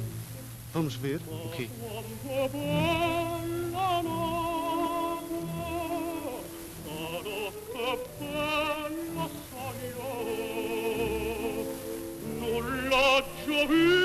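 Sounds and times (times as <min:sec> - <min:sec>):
operatic singing with vibrato: 0:00.8 - 0:14.0.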